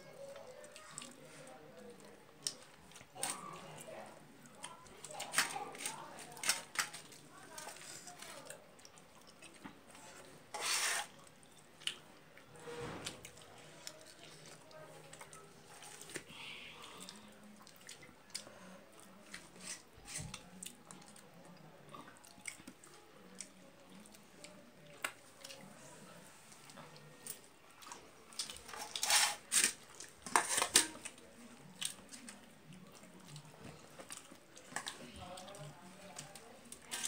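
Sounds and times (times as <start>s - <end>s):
quiet chewing and mouth smacks: 0.1s - 10.5s, 11.1s - 28.8s, 31.0s - 37.0s.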